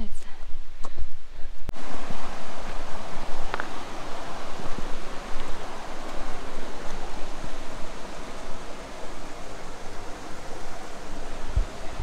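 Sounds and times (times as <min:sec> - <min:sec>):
mountain stream rushing: 0:01.7 - 0:12.0.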